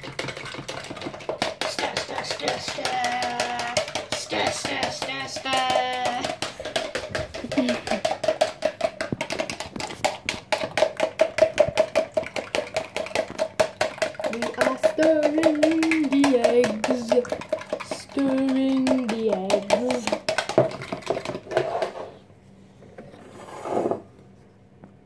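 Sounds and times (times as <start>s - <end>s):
fork beating eggs in jug: 0.0s - 22.2s.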